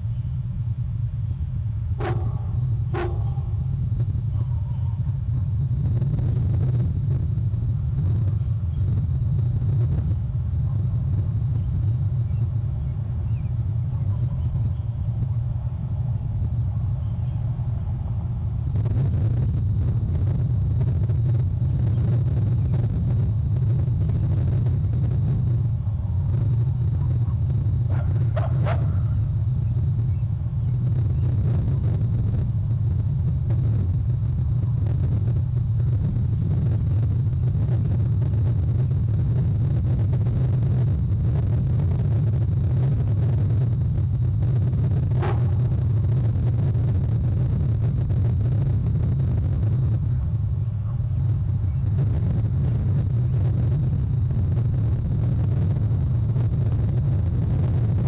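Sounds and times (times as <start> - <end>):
faint high electronic whine: 0.0 - 58.0
steady low rumble: 0.0 - 58.0.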